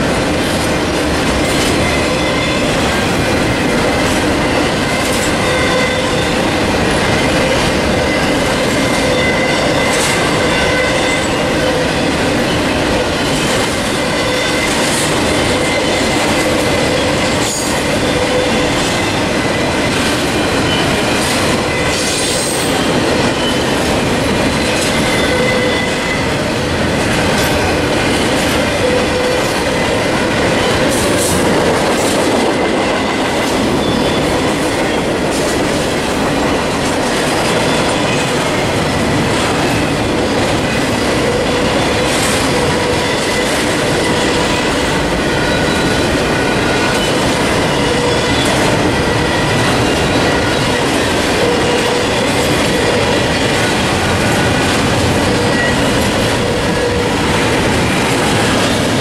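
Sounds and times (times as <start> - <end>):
steel wheels rolling on rail: 0.0 - 59.0.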